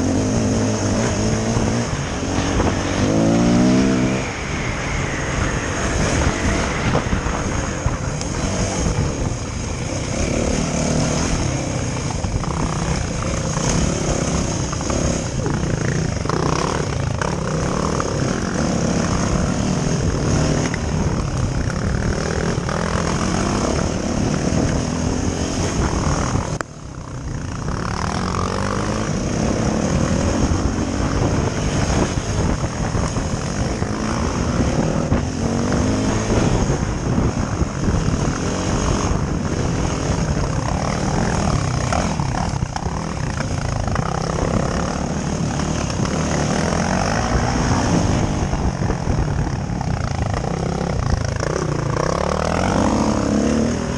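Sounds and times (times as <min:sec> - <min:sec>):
dirt bike engine revving: 0:00.0 - 0:26.6, 0:27.2 - 0:53.9.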